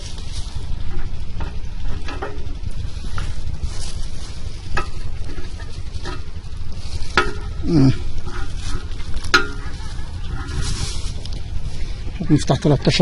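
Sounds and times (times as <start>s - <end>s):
steady hissing: 0.0s - 13.0s.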